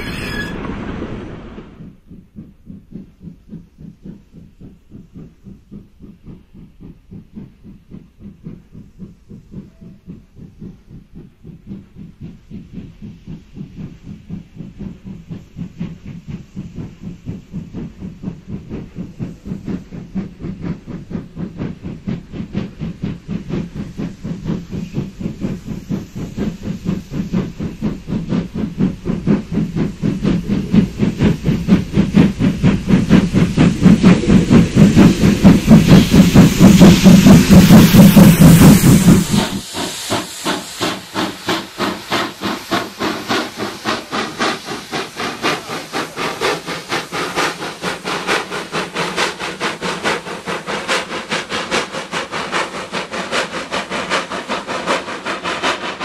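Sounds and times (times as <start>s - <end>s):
steam hissing from cylinders: 0.0s - 56.0s
steam locomotive chuffing: 0.0s - 56.0s.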